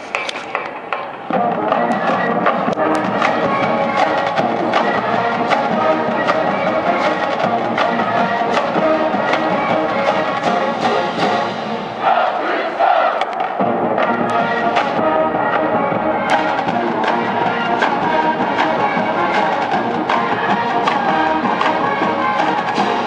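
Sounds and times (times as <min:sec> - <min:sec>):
drum line beat: 0:00.0 - 0:23.0
marching band brass: 0:01.3 - 0:23.0.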